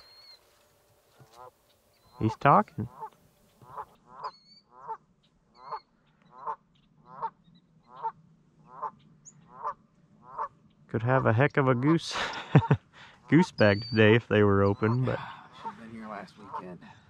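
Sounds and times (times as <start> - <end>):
goose honking: 1.2 - 5.0, 5.6 - 10.6, 11.2 - 16.8.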